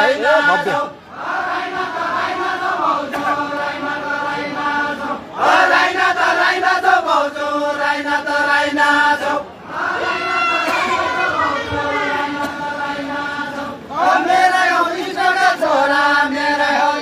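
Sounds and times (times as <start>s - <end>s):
group singing folk song: 0.0s - 17.0s.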